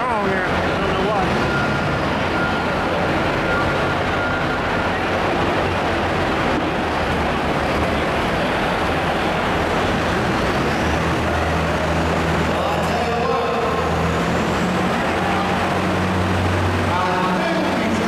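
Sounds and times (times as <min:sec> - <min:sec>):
diesel engine running at low revs: 0:00.0 - 0:18.0
echoing hall background noise: 0:00.0 - 0:18.0.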